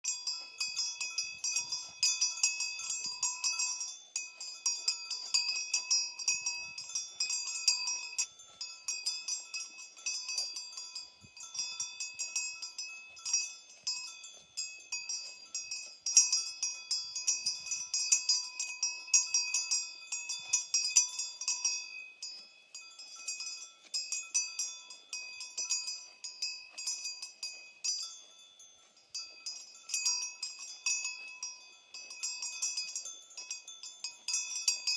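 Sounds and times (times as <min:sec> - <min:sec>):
cowbells clanking and jangling: 0:00.0 - 0:34.9.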